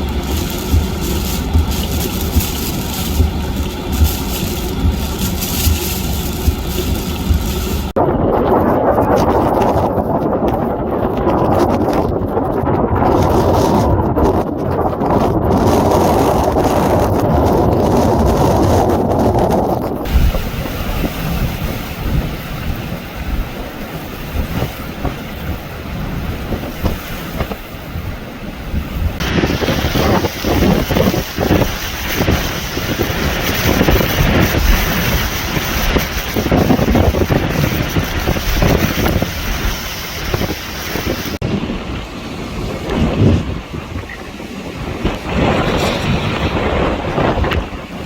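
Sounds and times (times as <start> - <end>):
hurricane wind buffeting microphone: 0.0 - 48.0.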